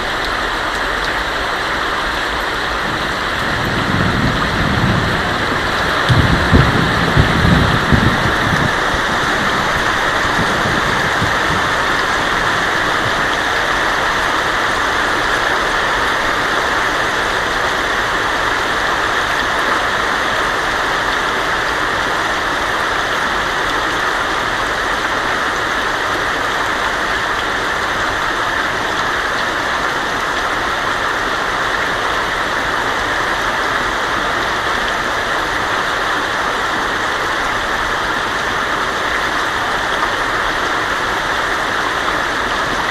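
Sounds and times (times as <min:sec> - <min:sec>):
heavy rain on a tin roof: 0:00.0 - 0:42.9.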